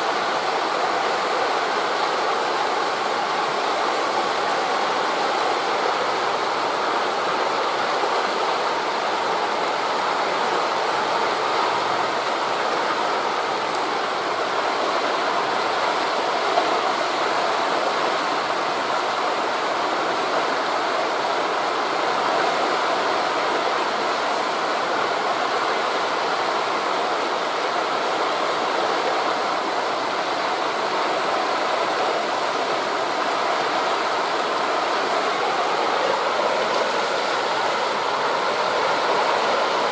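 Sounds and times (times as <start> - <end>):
sea waves on a beach: 0.0 - 39.9
wind through forest leaves: 0.0 - 39.9.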